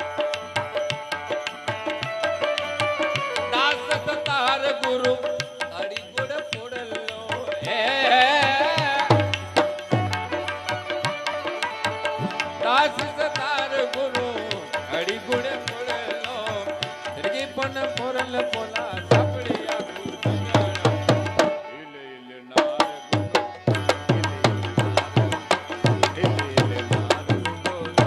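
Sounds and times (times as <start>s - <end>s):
hand drums: 0.0s - 21.7s, 22.6s - 28.0s.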